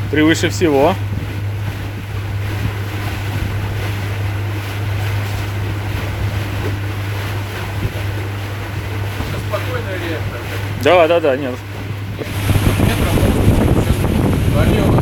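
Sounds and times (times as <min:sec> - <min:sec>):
boat motor humming: 0:00.0 - 0:15.0
water rushing: 0:00.0 - 0:15.0
wind buffeting microphone: 0:00.0 - 0:15.0.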